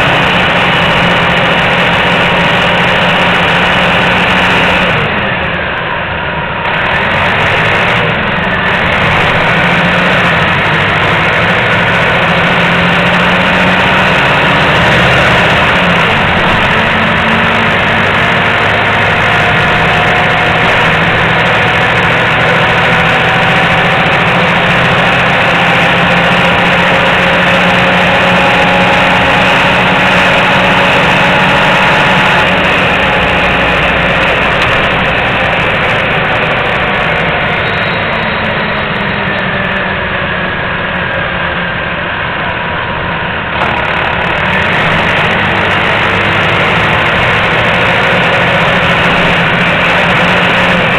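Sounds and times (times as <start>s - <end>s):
bus engine running: 0.0s - 50.9s
faint drivetrain whine: 0.0s - 50.9s.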